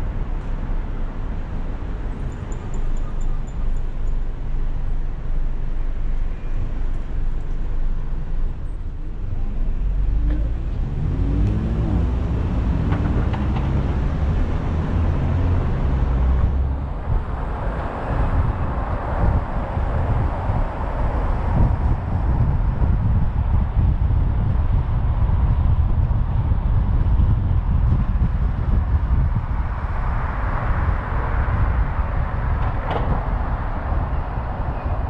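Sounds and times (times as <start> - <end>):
car engine and road rumble: 0.0 - 35.0
wind and tyre hiss: 0.0 - 35.0.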